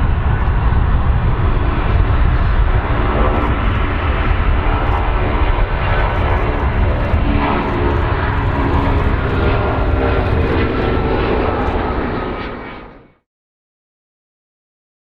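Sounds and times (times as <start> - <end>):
airplane engines rumbling: 0.0 - 13.2.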